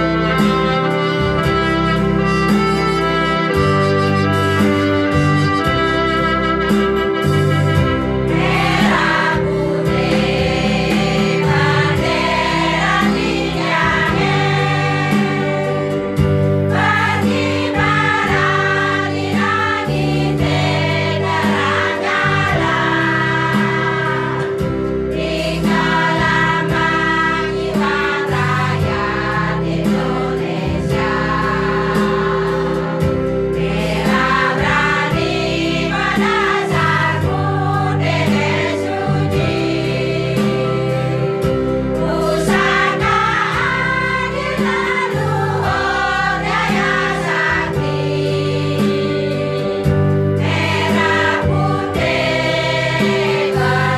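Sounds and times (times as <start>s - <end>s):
instrumental accompaniment: 0.0s - 53.9s
choir singing folk song: 7.4s - 53.9s.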